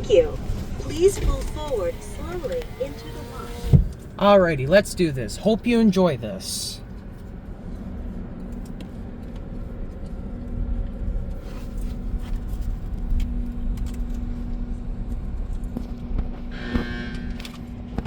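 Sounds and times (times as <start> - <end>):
car rumbling inside cabin: 0.0 - 18.0.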